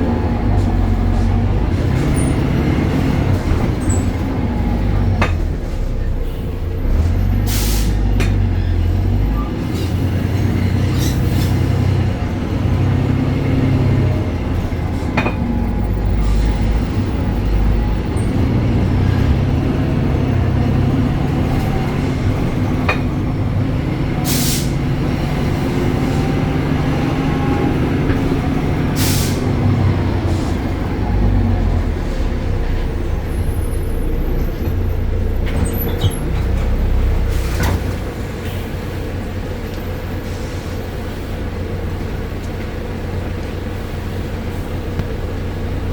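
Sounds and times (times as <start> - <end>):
bus diesel engine running: 0.0 - 45.9.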